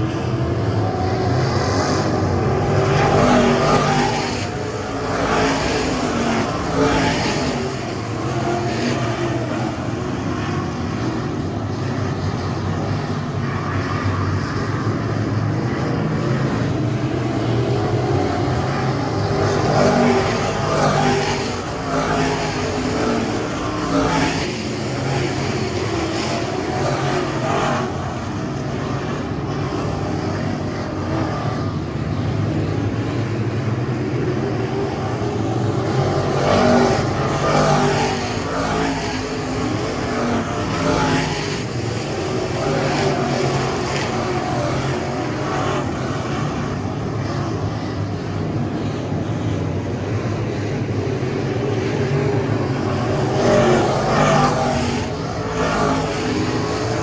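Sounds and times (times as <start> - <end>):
race car engines passing: 0.0 - 57.0.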